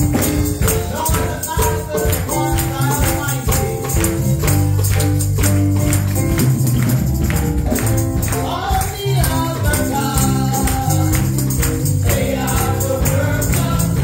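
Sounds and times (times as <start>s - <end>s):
praise and worship band playing: 0.0s - 14.0s.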